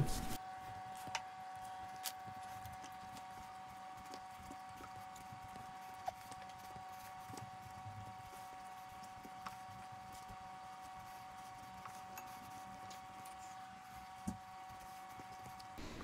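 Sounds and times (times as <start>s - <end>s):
dough kneaded on plastic board: 0.0s - 16.0s
faint steady hum: 0.0s - 16.0s.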